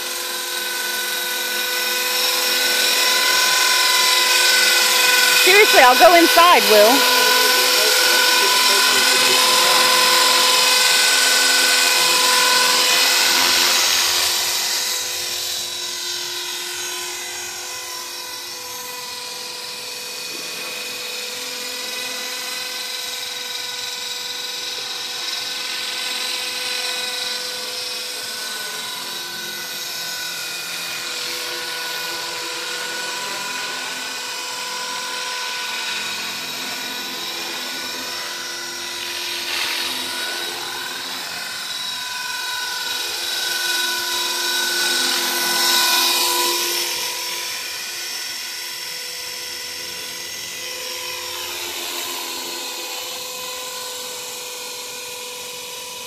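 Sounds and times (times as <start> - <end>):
rc helicopter motor whine: 0.0 - 56.0.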